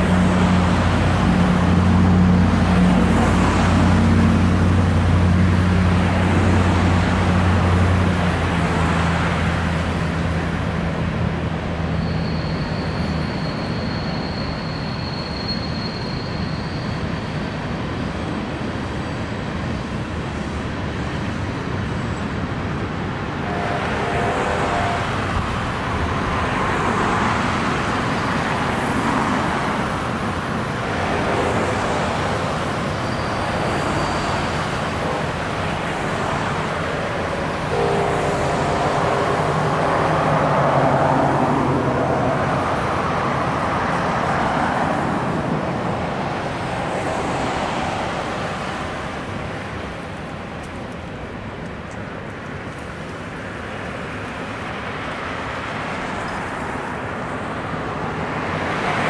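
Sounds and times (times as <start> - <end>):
cars driving past on wet street: 0.0 - 14.4, 17.6 - 59.0.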